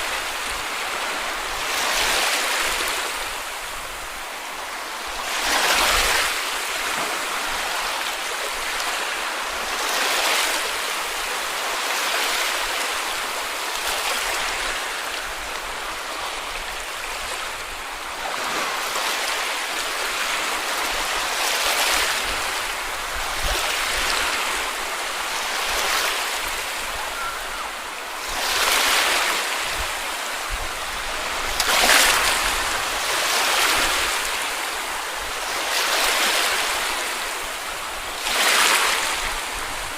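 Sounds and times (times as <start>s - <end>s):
small waves washing on beach: 0.0s - 39.9s.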